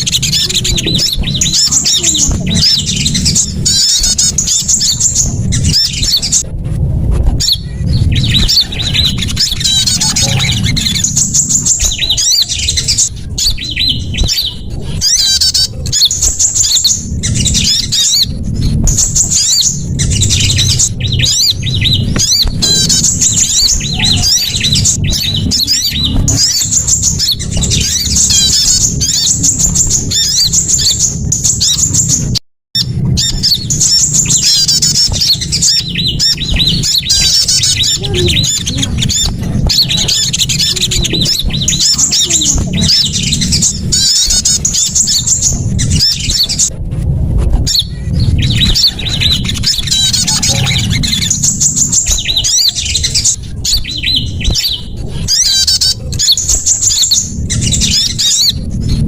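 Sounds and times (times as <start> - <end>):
songbirds chattering and chirping: 0.0 - 46.9, 47.5 - 59.0
steady low rumble: 0.0 - 59.0.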